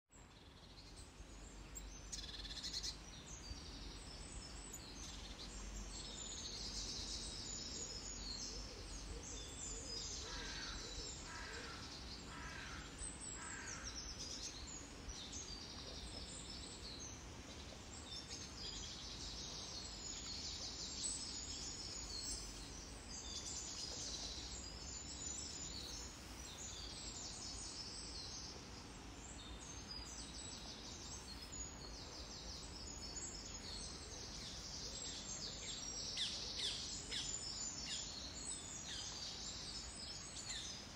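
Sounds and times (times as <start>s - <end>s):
small birds chirping: 0.1s - 40.9s.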